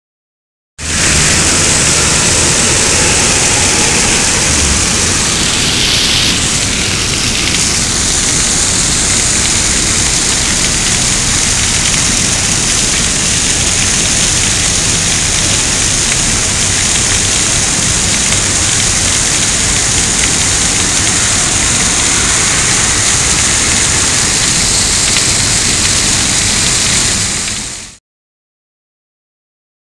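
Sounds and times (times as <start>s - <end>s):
torrential rain on pavement: 0.8s - 28.0s.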